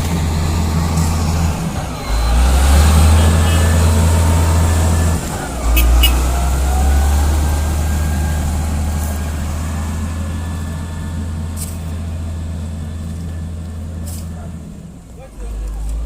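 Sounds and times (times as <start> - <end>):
heavy diesel engine droning: 0.0 - 16.0.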